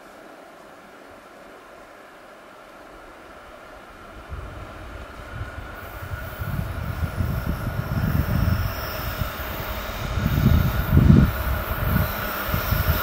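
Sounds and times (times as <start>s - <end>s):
freight train rumble: 0.0s - 13.0s
steady high hum: 0.0s - 13.0s.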